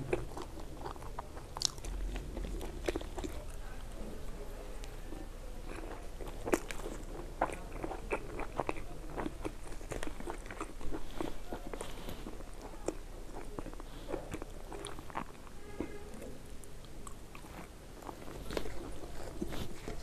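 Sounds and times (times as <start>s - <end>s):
person chewing crunchy food: 0.0s - 3.9s, 5.6s - 20.0s.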